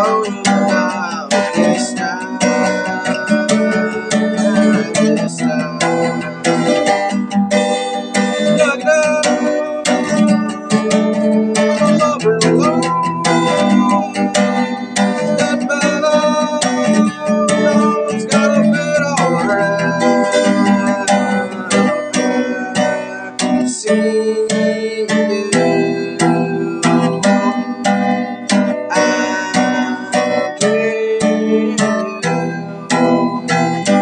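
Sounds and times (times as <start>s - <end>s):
acoustic guitar strumming chords: 0.0s - 34.0s
person singing: 0.0s - 34.0s.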